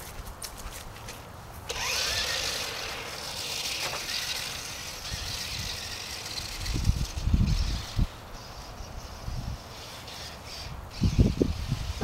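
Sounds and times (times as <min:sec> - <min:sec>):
toy car electric motor whine: 0:01.7 - 0:12.0.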